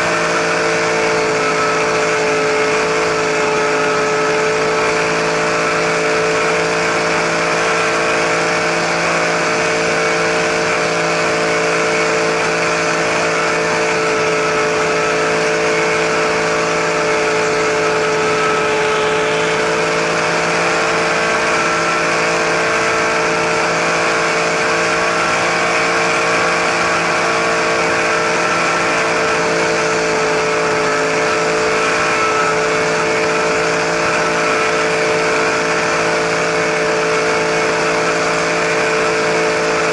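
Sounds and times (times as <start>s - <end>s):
model helicopter motor drone: 0.0s - 39.9s.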